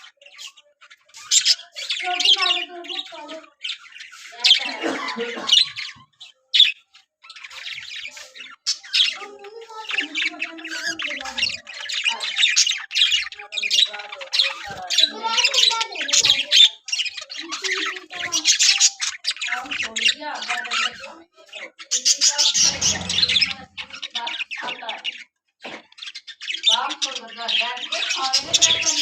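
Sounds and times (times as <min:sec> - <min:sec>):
budgerigars chattering and squawking: 0:00.0 - 0:29.0.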